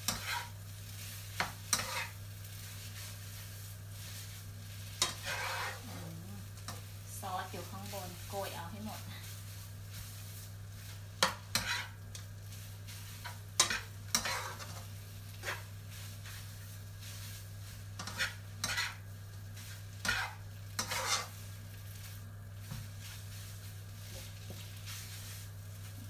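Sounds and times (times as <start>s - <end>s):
spatula scraping in wok: 0.0s - 26.0s.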